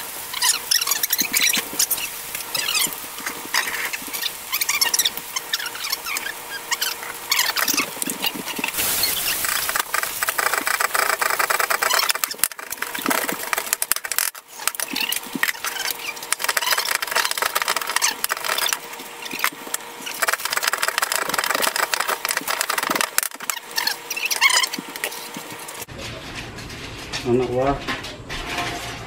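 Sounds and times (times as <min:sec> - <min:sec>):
crackling hiss: 0:00.0 - 0:25.9.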